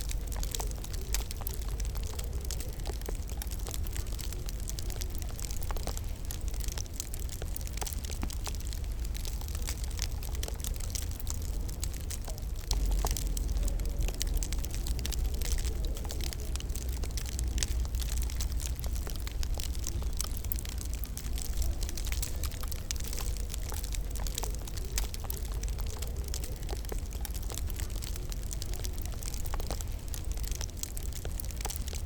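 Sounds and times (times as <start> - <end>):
fire low rumble: 0.0 - 32.0
wood fire crackling and popping: 0.0 - 32.0.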